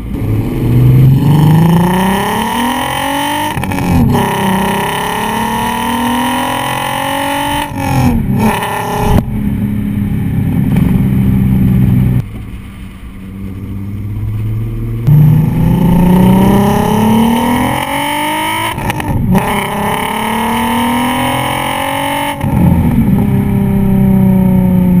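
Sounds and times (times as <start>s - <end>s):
car engine exhaust revving: 0.0s - 25.0s.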